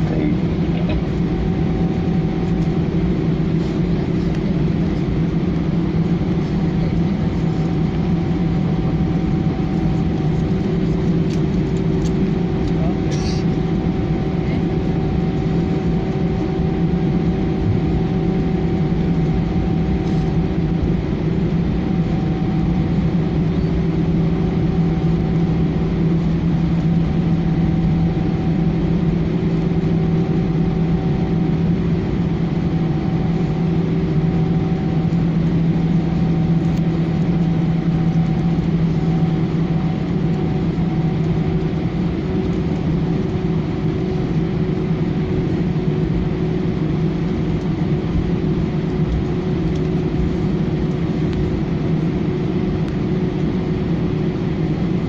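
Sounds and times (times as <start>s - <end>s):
aircraft cabin engine hum: 0.0s - 55.0s.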